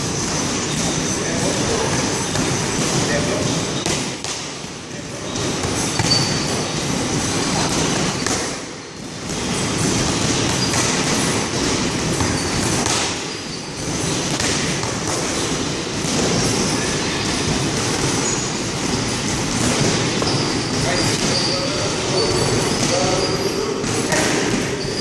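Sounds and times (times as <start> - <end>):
boxing gloves hitting mitts: 2.0 - 21.4, 23.8 - 25.0.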